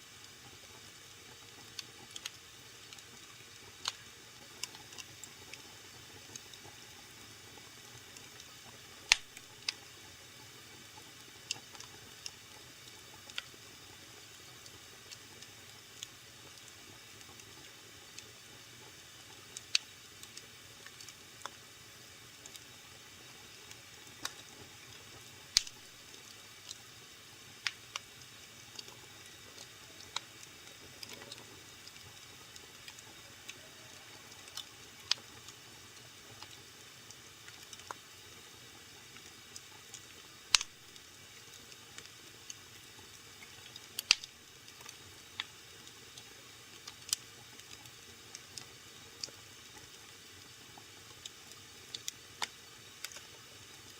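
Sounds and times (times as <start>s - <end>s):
wood fire hissing and crackling: 0.0s - 53.9s.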